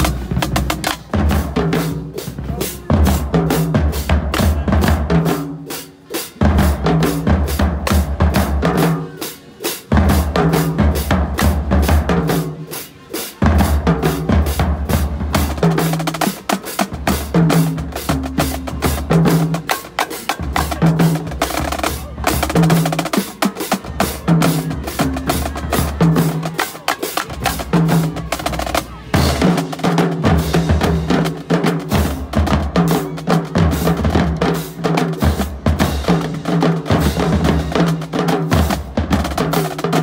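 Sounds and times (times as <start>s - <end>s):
marching snare drum rolls: 0.0s - 5.7s, 13.4s - 40.0s.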